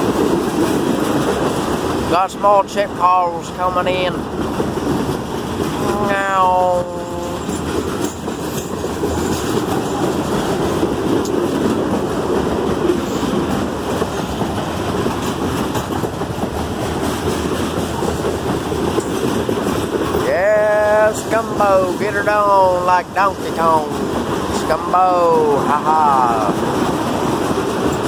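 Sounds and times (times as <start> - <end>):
clickety-clack over rail joints: 0.0 - 28.0
steel wheels on rail: 0.0 - 28.0.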